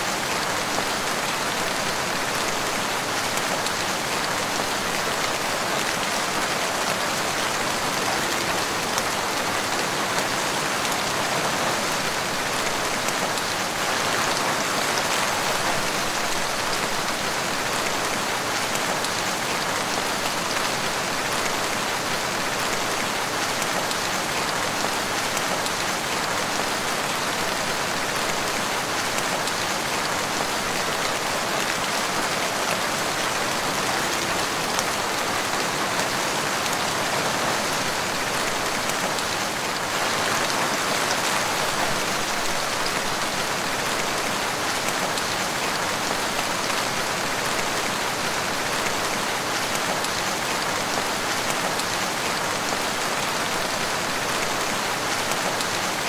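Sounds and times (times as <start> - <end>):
heavy rain on leaves: 0.0 - 56.0.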